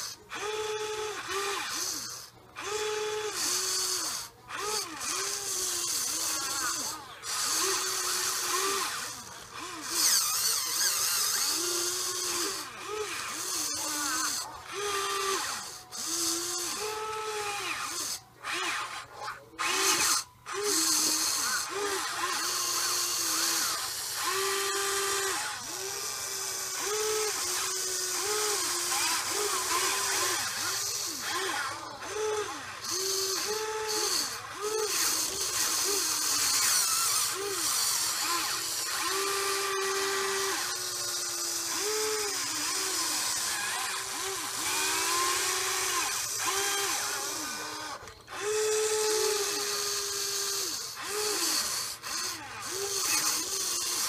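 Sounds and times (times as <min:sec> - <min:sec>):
electric motors whining: 0:00.0 - 0:54.0.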